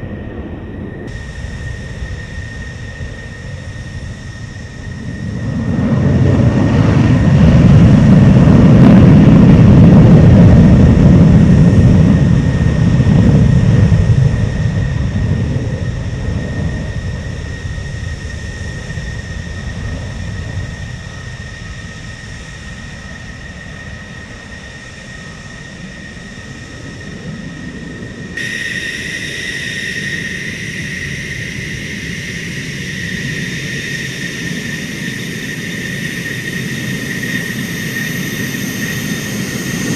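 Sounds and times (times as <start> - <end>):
fighter jet engine rumble: 0.0 - 39.9
jet engine high whine: 0.0 - 39.9.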